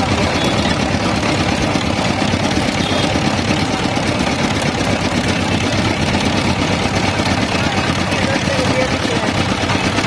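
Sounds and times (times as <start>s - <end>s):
small engine chugging: 0.0s - 10.0s.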